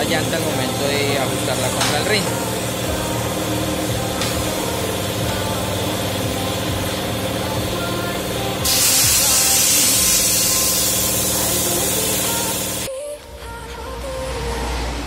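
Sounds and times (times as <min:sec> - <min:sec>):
compressed air hissing: 0:00.0 - 0:12.9
steady background hum: 0:00.0 - 0:15.0.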